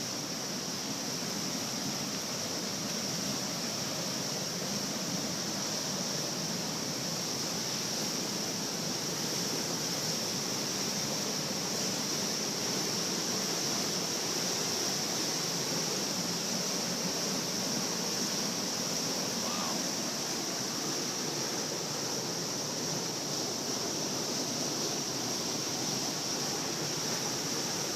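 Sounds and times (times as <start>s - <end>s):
creek rushing: 0.0s - 27.9s.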